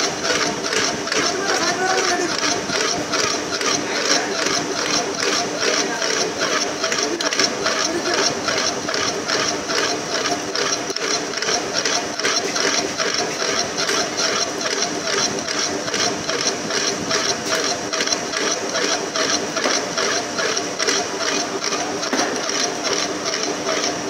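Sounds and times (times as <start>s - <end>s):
lathe scraping metal: 0.0s - 24.0s
machine hum: 0.0s - 24.0s.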